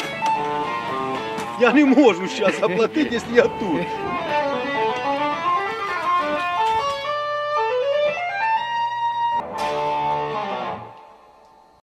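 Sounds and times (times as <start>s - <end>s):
plucked guitar melody: 0.0s - 11.5s
ringing guitar chord: 0.0s - 11.6s.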